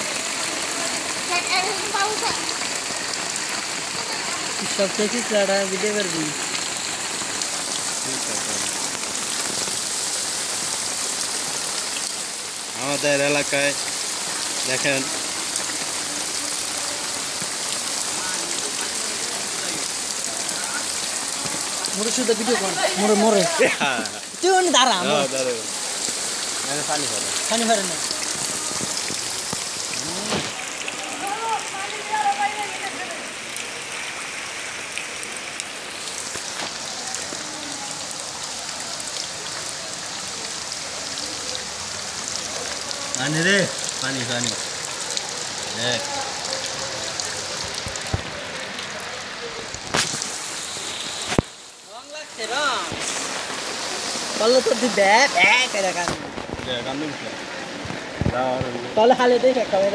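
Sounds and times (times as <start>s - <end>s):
rain pattering into floodwater: 0.0s - 59.9s.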